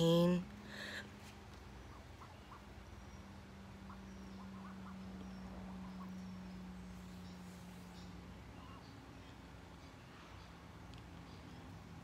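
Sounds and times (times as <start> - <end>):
steady low hum: 0.0 - 12.0
ducklings peeping: 1.6 - 12.0.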